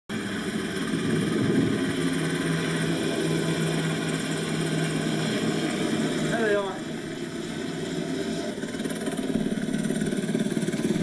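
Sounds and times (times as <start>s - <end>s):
helicopter rotor and engines: 0.1s - 11.0s.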